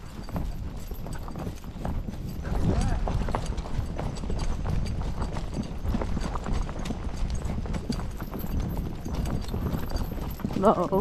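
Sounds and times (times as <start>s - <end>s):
horse hoofbeats: 0.0s - 11.0s.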